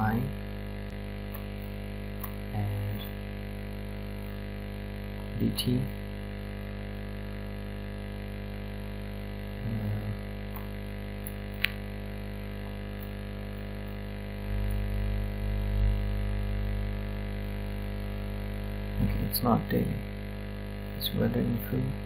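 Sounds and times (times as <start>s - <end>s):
electrical hum with buzz: 0.0s - 22.0s.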